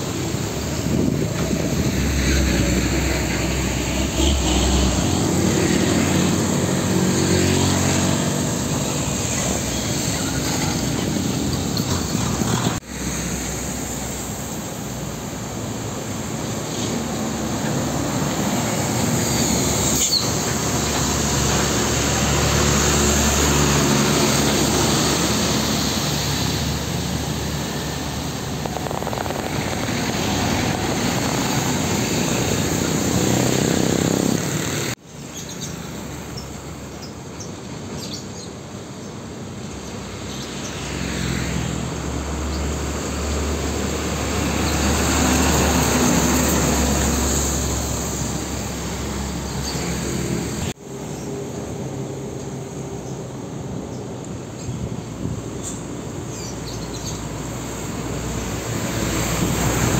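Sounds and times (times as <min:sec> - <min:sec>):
diesel trucks driving past: 0:00.0 - 0:38.2, 0:39.2 - 0:59.9.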